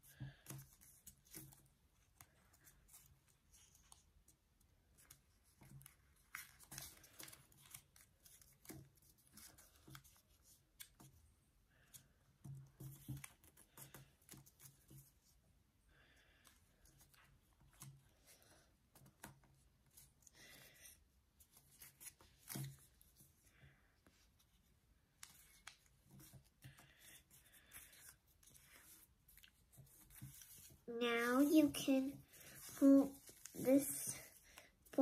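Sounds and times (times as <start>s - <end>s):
paper rustling and creasing: 0.0s - 11.2s, 16.4s - 35.0s.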